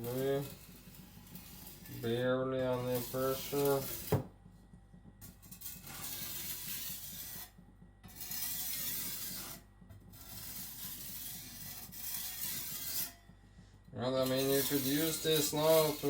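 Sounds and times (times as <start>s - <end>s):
blade scraping on whetstone: 0.0s - 4.2s, 5.2s - 13.3s, 14.0s - 16.0s.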